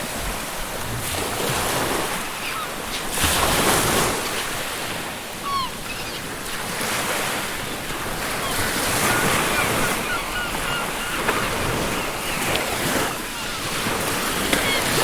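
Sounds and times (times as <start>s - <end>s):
ocean surf washing on beach: 0.0s - 15.0s
seagull calls: 2.2s - 15.0s.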